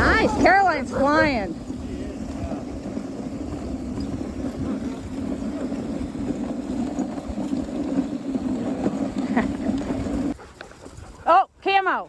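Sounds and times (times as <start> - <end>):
wind buffeting microphone: 0.0 - 11.3
sled gliding over snow: 0.0 - 12.0.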